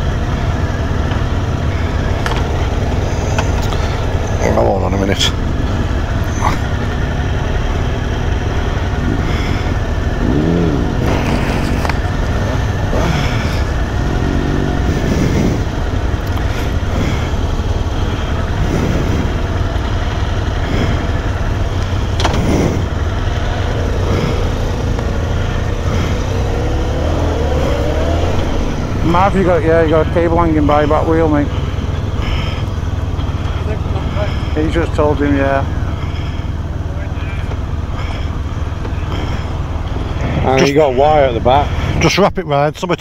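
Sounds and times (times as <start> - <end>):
motorcycle engines idling: 0.0 - 43.0.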